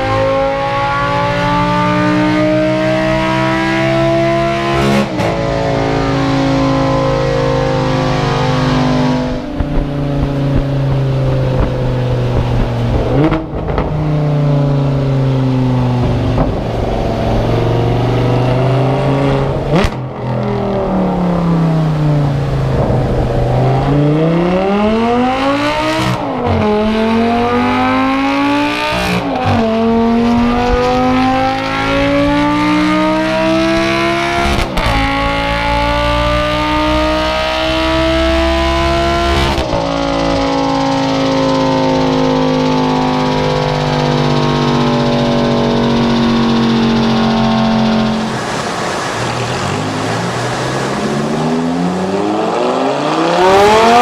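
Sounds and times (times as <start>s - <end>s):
car engine revving on dyno: 0.0s - 54.0s
exhaust cracks: 3.0s - 54.0s.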